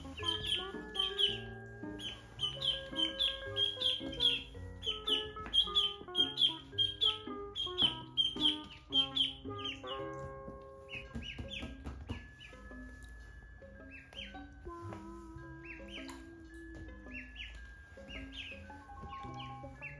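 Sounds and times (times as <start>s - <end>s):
duckling peeping: 0.0s - 12.9s, 13.8s - 19.9s
background music: 0.0s - 19.9s.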